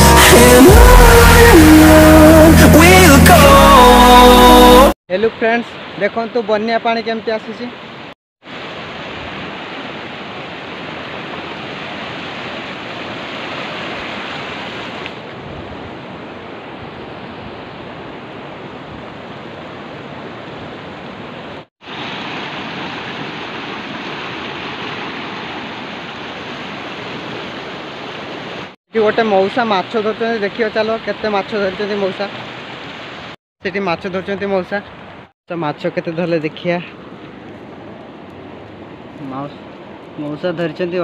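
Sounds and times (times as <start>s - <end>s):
river rushing in flood: 2.8s - 41.0s.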